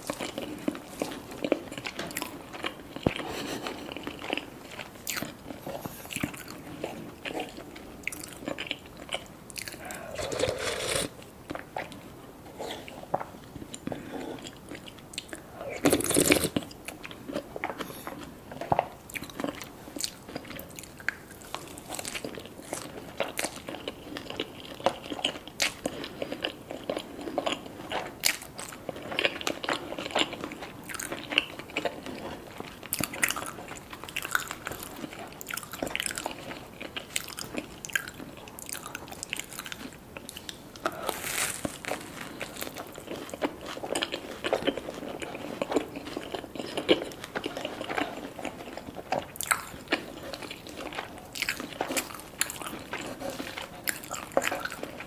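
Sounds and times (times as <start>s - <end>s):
crunchy bites and chewing: 7.3s - 11.6s, 14.4s - 55.0s.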